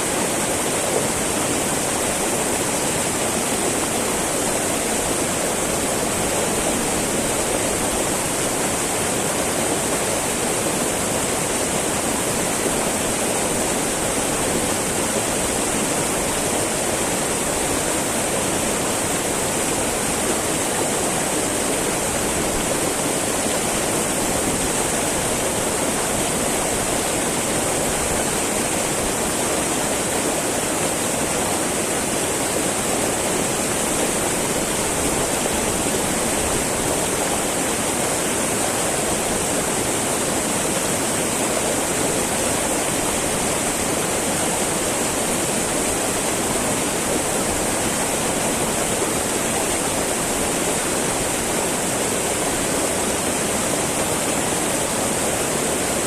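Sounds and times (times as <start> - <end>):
river babbling over rocks: 0.0 - 56.0.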